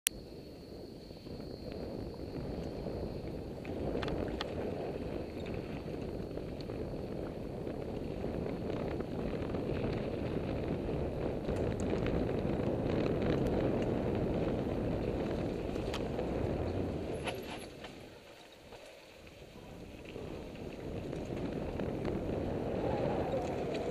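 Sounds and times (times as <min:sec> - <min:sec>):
wind on microphone: 0:00.1 - 0:23.9
bike clicks and rattles: 0:03.7 - 0:23.9.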